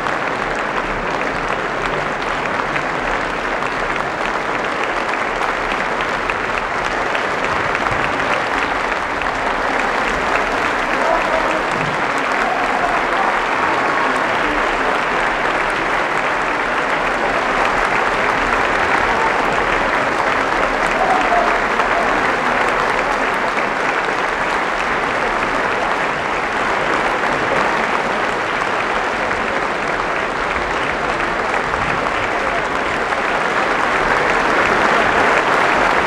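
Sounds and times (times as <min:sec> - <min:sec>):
audience applauding: 0:00.0 - 0:36.0.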